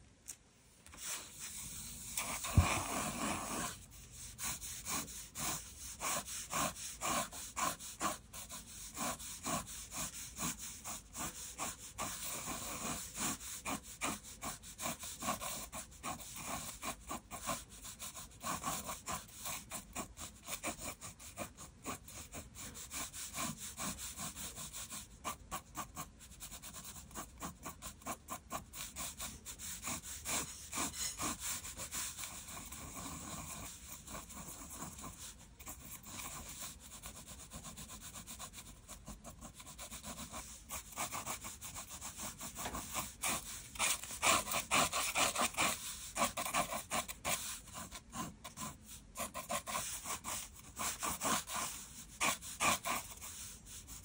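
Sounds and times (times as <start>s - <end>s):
pencil scratching on paper: 0.9s - 54.0s.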